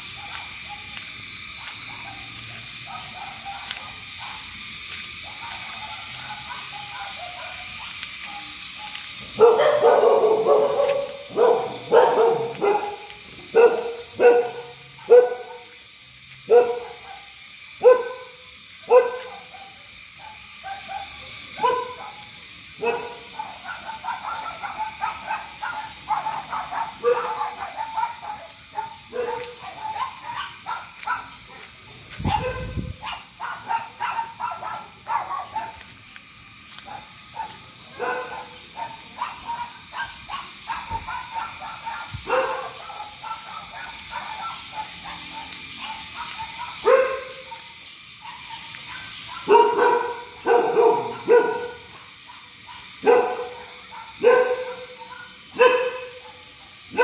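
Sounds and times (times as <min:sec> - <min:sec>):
dog barking: 0:00.0 - 0:15.7, 0:16.4 - 0:35.9, 0:36.8 - 0:57.0.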